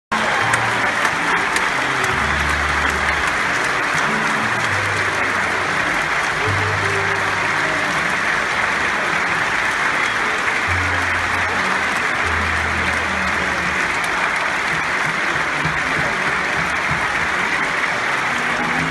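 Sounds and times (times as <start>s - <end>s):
audience applauding: 0.1s - 18.9s.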